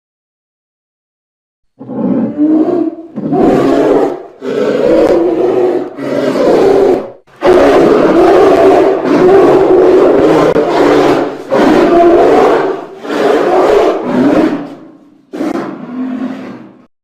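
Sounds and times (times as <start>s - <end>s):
large wild animal calling: 1.8s - 16.9s.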